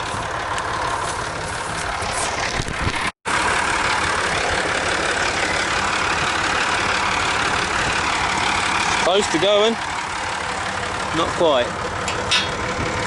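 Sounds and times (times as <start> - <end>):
engine idling with fast pulsing: 0.0 - 13.0.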